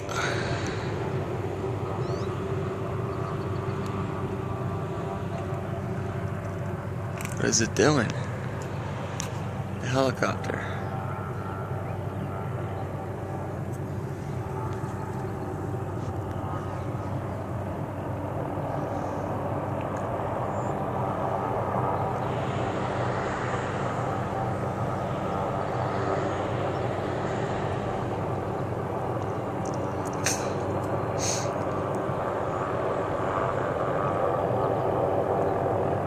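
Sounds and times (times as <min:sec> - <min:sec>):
helicopter hovering: 0:00.0 - 0:36.0.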